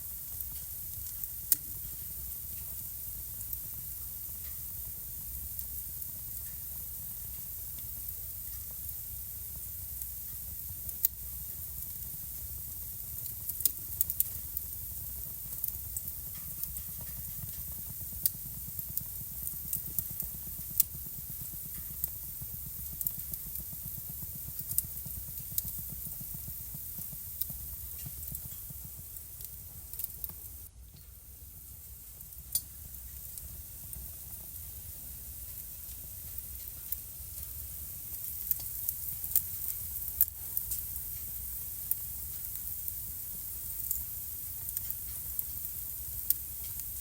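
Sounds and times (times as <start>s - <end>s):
low rumble of flames: 0.0s - 47.0s
wood fire crackling and popping: 0.0s - 47.0s.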